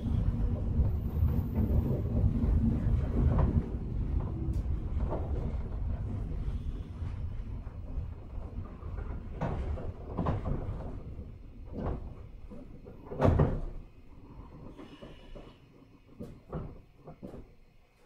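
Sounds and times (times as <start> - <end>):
train running rumble: 0.0 - 17.7
train clunks: 0.0 - 17.8.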